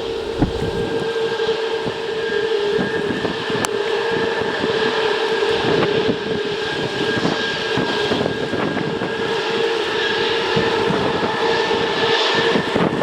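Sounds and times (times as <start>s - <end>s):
jet engines whining and roaring: 0.0s - 13.0s.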